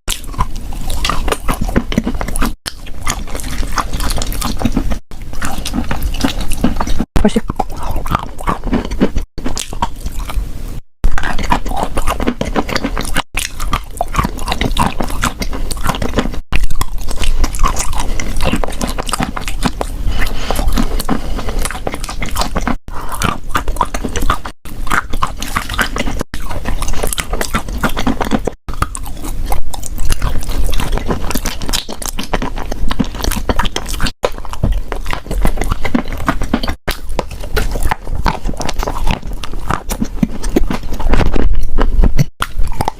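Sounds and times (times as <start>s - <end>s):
chewing crunchy chalk: 0.1s - 42.9s.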